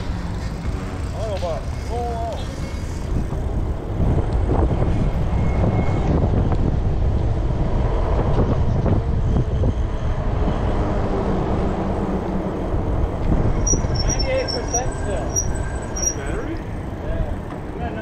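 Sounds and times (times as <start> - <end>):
wind rushing over microphone: 2.2 - 17.0.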